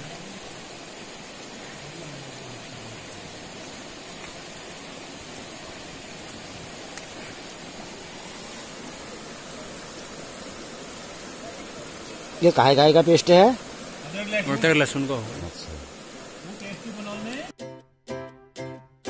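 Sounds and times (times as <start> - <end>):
stream running over stones: 0.0 - 17.6.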